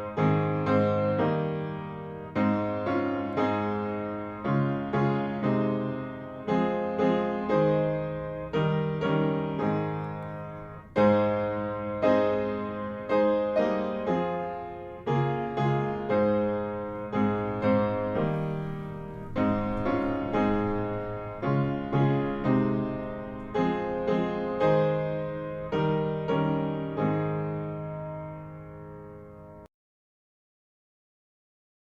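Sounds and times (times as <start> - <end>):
piano playing slow hymn chords: 0.0 - 29.7.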